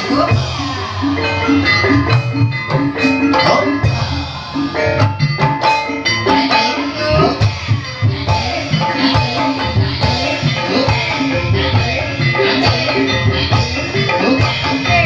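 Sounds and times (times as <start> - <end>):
hand drums: 0.0 - 15.0
struck keyed percussion ringing notes: 0.0 - 15.0.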